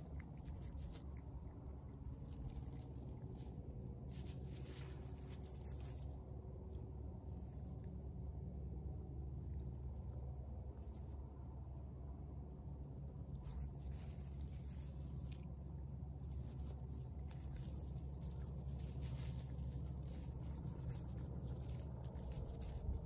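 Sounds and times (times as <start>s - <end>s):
cat chewing and crunching: 0.0s - 23.0s
steady low rumble: 0.0s - 23.0s.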